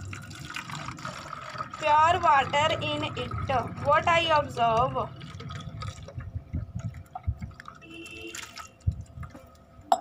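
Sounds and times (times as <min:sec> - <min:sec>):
water pouring into plastic bottle: 0:00.0 - 0:09.6.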